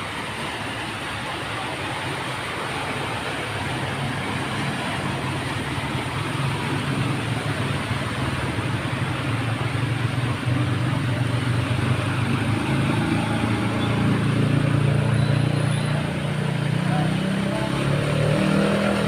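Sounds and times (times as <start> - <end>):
constant rushing noise: 0.0 - 19.0
vehicle engine running: 0.0 - 19.0.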